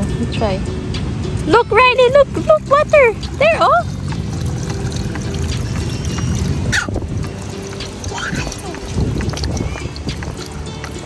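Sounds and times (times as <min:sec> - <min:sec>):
background music: 0:00.0 - 0:11.0
water pouring from watering can: 0:01.9 - 0:11.0.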